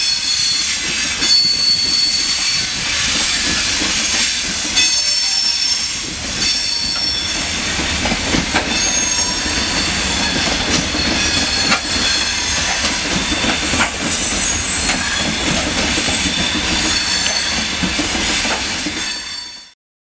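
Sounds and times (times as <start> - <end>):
train wheels rumbling on rails: 0.0 - 19.7
wheel squeal: 0.0 - 19.7.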